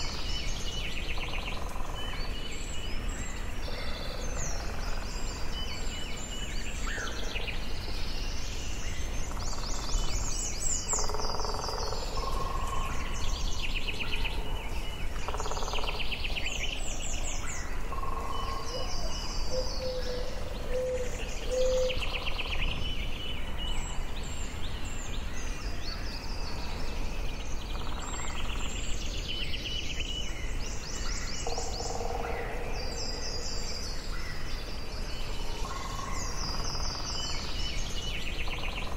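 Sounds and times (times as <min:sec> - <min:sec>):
birds singing and calling: 0:00.0 - 0:38.9.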